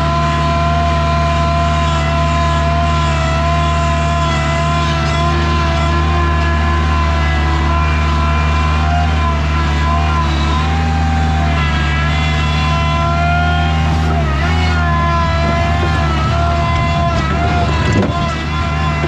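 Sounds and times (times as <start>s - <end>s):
skid steer engine running: 0.0s - 19.0s
high wavering whine: 2.3s - 19.0s.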